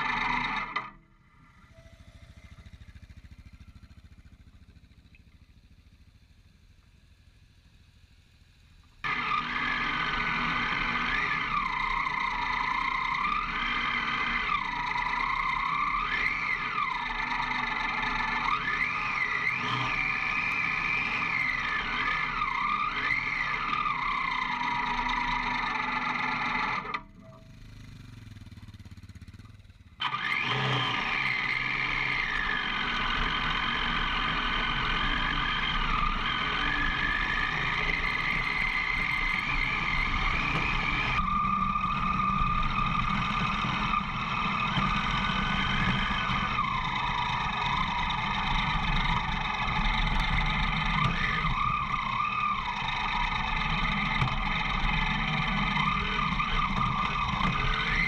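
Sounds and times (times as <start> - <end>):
motorcycle engine revving: 0.0 - 58.0
tyres on dirt: 8.9 - 58.0.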